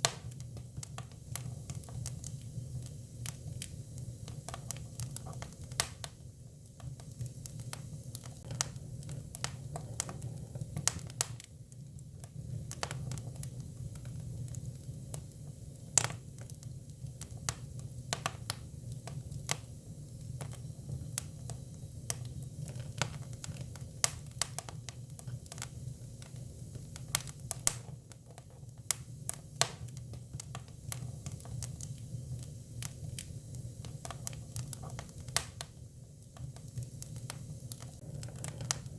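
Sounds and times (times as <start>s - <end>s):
firewood crackling and popping: 0.0s - 38.9s.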